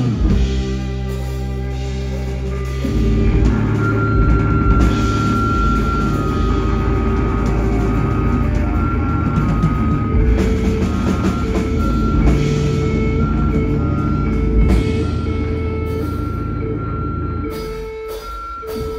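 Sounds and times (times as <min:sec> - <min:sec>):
drum kit: 0:00.0 - 0:18.9
electric guitar: 0:00.0 - 0:18.9
keyboard: 0:00.0 - 0:18.9.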